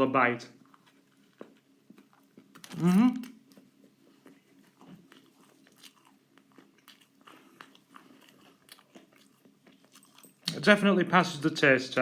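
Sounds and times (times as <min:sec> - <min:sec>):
person chewing food: 0:00.6 - 0:10.6.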